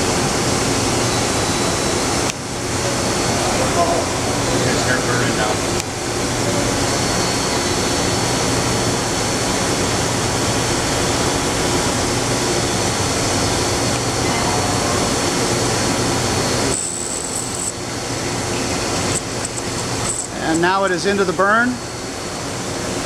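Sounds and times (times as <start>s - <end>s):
drill machine hiss and hum: 0.0s - 23.0s.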